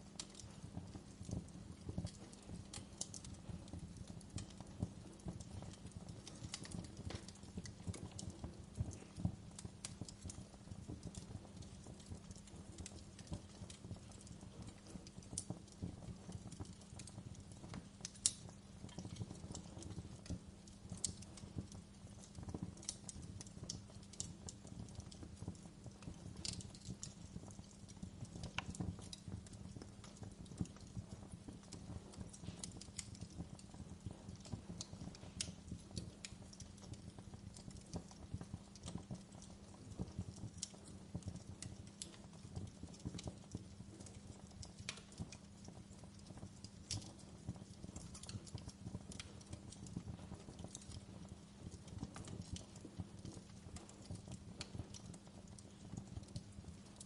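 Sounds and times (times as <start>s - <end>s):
low rumble of fire: 0.0s - 57.0s
wood fire crackling: 0.0s - 57.0s.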